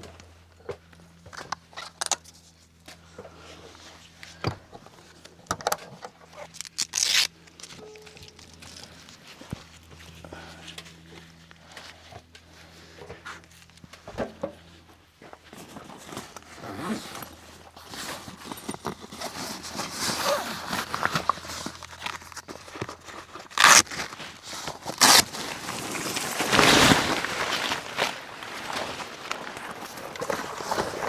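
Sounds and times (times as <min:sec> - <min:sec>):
rustling and crinkling: 0:00.0 - 0:31.0.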